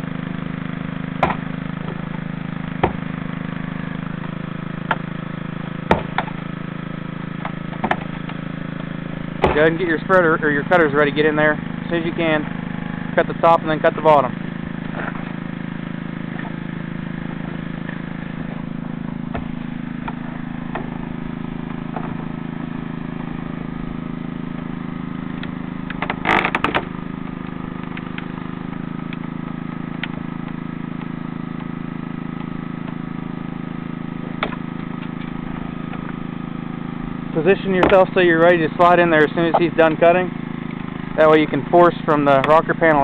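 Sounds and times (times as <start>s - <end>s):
hydraulic power unit running: 0.0s - 43.0s
metal crunching: 0.0s - 43.0s.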